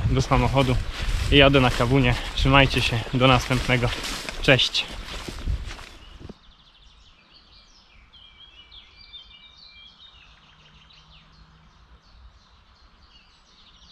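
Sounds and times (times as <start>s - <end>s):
songbirds chirping: 0.0s - 13.9s.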